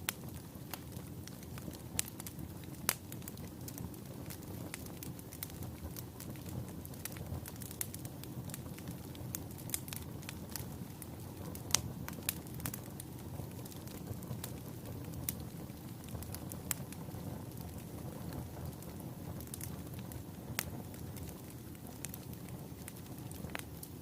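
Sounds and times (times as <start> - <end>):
fire burning in a fireplace: 0.0 - 24.0
fire crackles and pops: 0.0 - 24.0.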